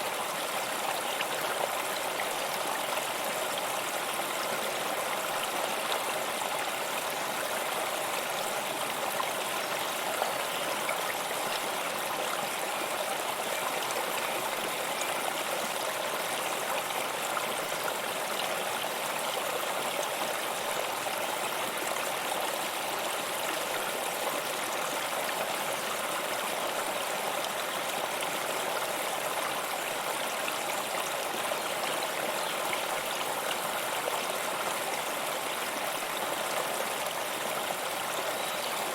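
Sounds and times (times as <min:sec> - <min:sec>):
water flowing over stones: 0:00.0 - 0:38.9.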